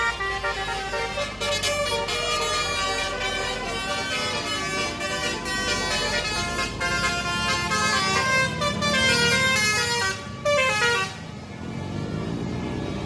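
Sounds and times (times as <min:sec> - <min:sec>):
bus multi-tone horn tune: 0:00.0 - 0:11.5.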